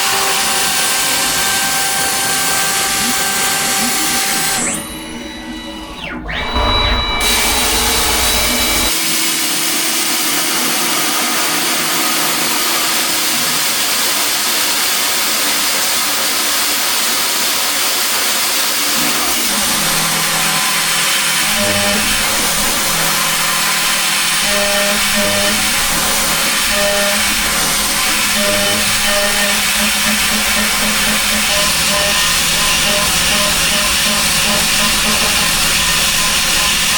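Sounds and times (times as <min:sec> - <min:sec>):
machine spindle whining: 0:00.0 - 0:15.8, 0:18.6 - 0:36.9
machine milling metal: 0:00.0 - 0:36.9.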